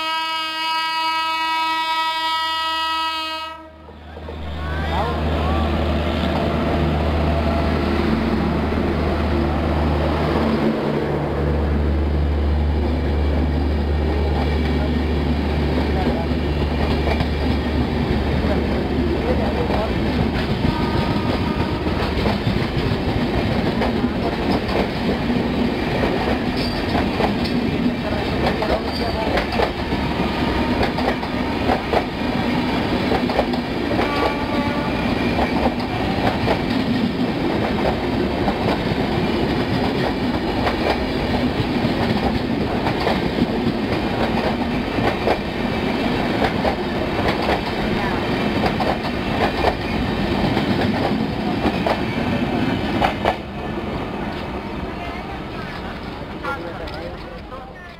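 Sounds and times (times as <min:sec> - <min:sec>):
train coaches rumbling: 0:00.0 - 0:57.9.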